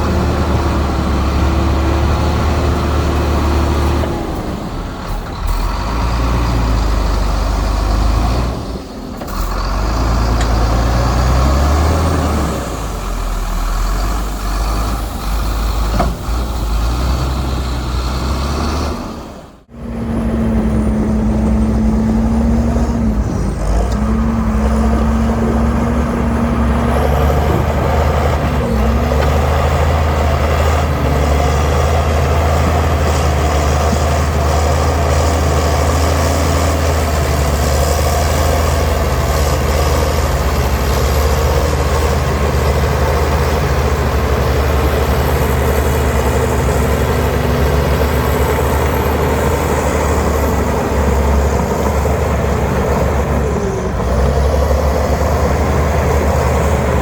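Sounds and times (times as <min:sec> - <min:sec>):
diesel engine deep rumble: 0:00.0 - 0:57.0.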